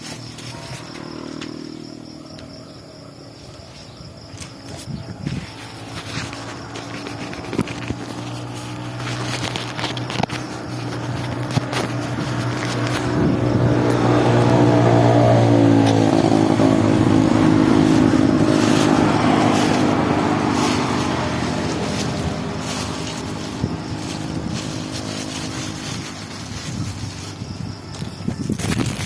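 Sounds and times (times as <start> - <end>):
vehicle engine passing: 0.0 - 3.1, 4.3 - 29.0.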